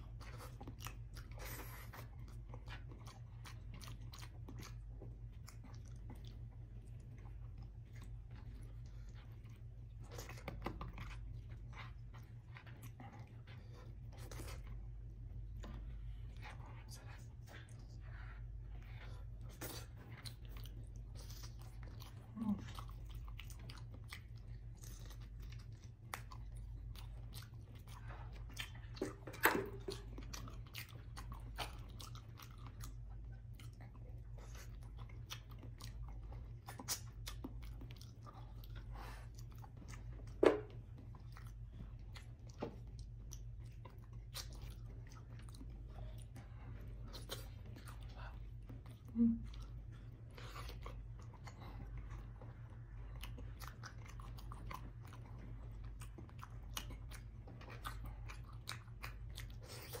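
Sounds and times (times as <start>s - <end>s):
chewing and wet mouth sounds: 0.0s - 60.0s
steady low hum: 0.0s - 60.0s.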